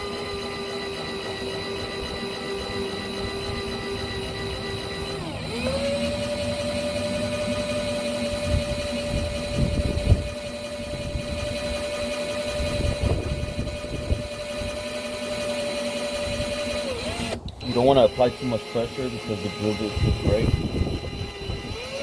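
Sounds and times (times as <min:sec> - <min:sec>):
electric drill motor whine: 0:00.0 - 0:22.0.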